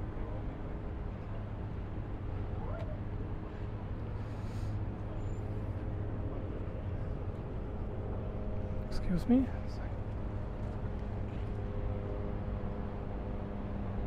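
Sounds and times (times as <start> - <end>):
low outdoor hum and rumble: 0.0 - 14.0.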